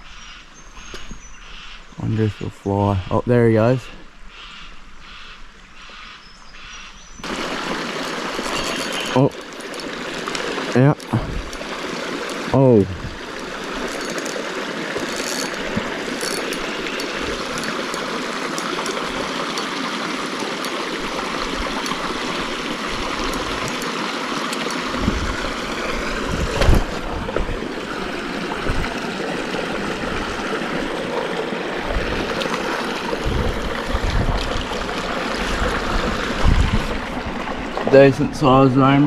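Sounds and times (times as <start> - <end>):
creek water rushing over rocks: 7.2 - 39.0.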